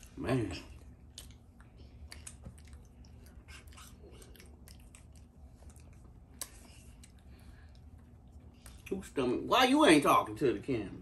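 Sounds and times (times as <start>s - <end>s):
people chewing: 0.0s - 8.9s.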